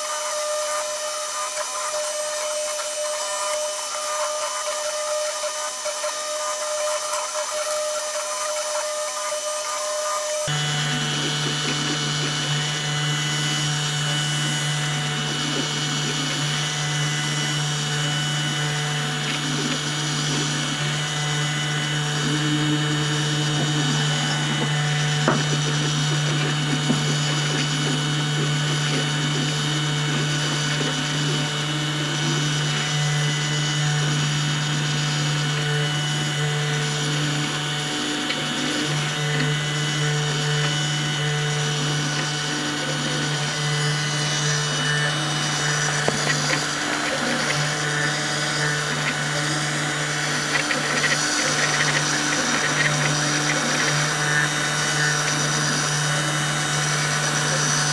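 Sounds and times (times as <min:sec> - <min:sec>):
spindle motor humming: 0:00.0 - 0:57.9
stepper motors whining: 0:00.0 - 0:57.9.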